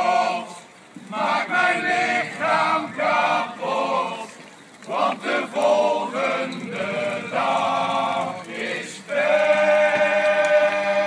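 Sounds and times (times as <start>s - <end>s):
male choir singing: 0.0s - 11.0s.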